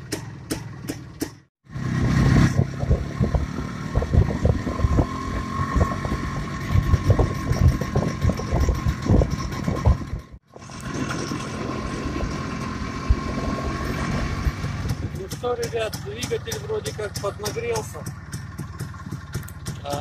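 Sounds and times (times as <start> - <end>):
two-stroke motorcycle engine running: 0.0 - 20.0.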